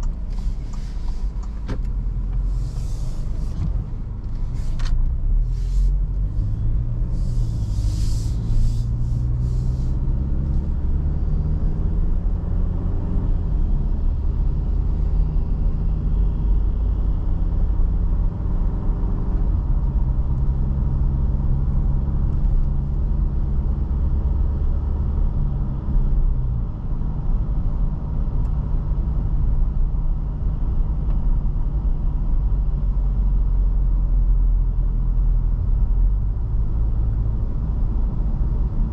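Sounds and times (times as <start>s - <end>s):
car engine running: 0.0s - 38.9s
road rumble: 0.0s - 38.9s.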